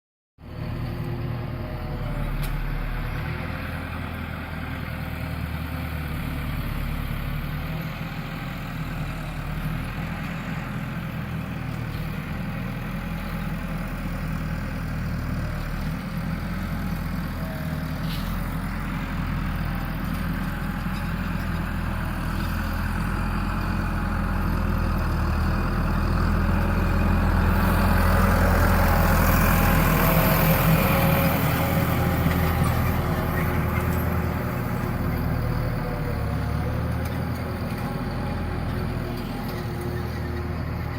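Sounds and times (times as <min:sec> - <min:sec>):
tractor engine running: 0:00.4 - 0:40.9.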